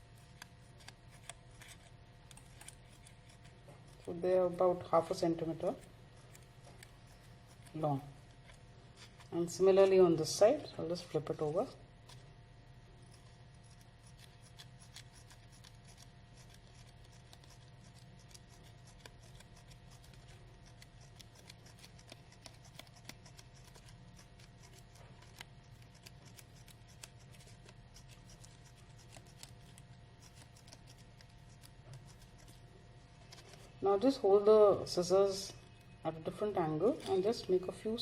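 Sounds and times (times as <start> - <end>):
scissors snipping paper: 0.0 - 9.9, 13.0 - 34.1, 35.0 - 38.0
faint steady hum: 0.0 - 38.0.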